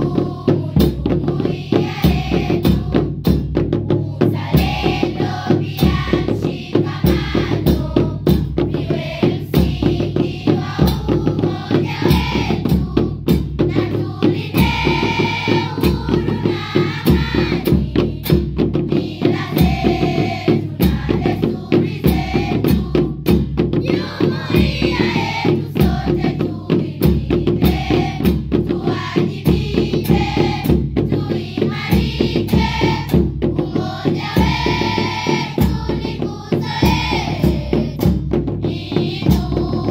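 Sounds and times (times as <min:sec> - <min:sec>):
busy drum beat: 0:00.0 - 0:39.9.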